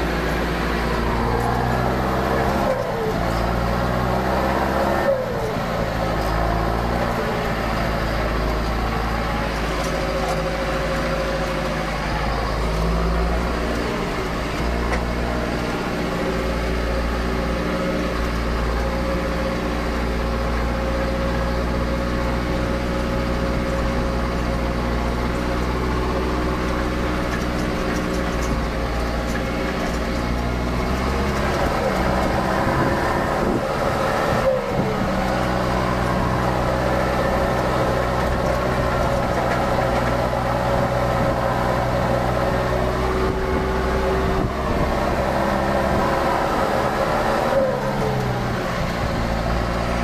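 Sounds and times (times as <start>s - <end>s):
tractor engine under load: 0.0s - 50.0s.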